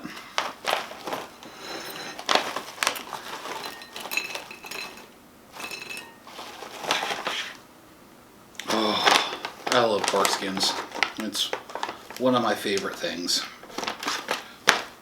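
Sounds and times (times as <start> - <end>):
snack bag crinkling: 0.1 - 7.6, 8.6 - 15.0
pork rinds rustling: 0.2 - 7.6, 8.6 - 15.0.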